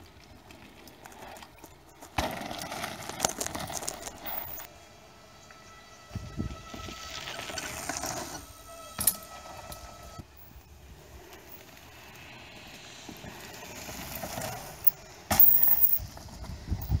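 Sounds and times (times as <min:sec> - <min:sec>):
tyres on dirt trail: 0:00.0 - 0:17.0.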